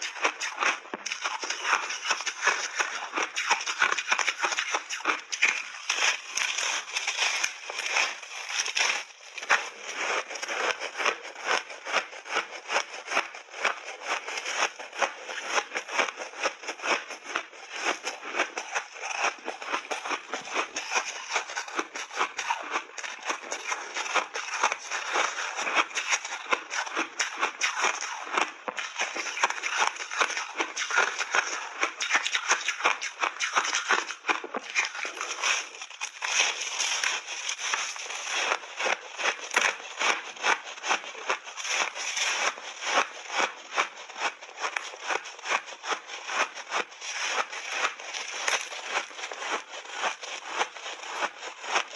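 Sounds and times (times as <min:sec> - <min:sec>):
person crunching ice: 0:00.0 - 0:51.9.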